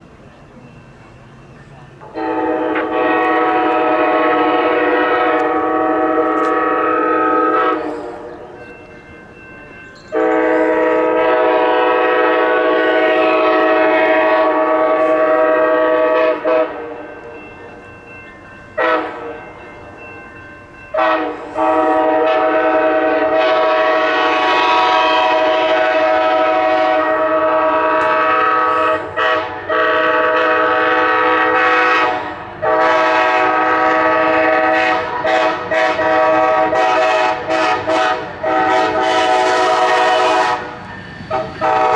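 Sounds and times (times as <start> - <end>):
locomotive air horn blasts: 2.0 - 8.6, 10.1 - 17.1, 18.8 - 19.4, 20.9 - 41.9.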